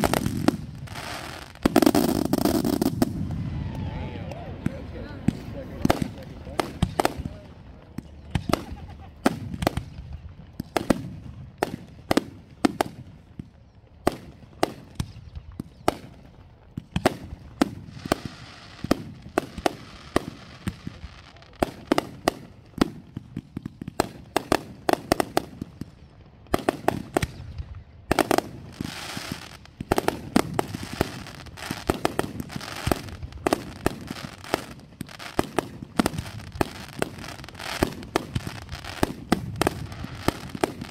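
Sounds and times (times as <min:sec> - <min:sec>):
fireworks bangs: 0:00.0 - 0:40.9
fireworks crackle: 0:00.0 - 0:40.9.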